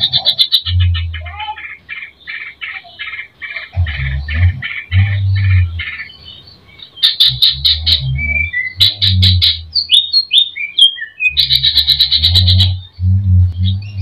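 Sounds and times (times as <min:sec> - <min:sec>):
bird singing varied song: 0:00.0 - 0:14.0.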